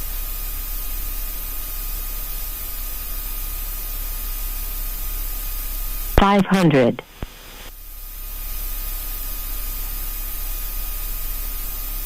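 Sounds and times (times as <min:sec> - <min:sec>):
aircraft cockpit hiss and drone: 0:00.0 - 0:12.0.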